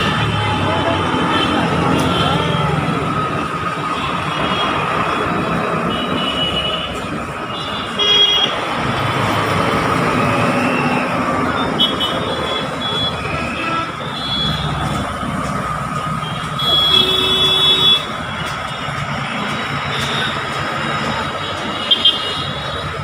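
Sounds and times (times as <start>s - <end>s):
passing vehicles rumble: 0.0s - 23.0s.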